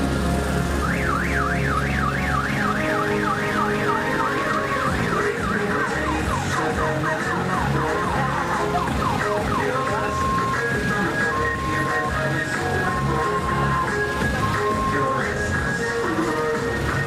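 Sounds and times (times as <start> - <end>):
electronic siren warble: 0.6 - 15.7.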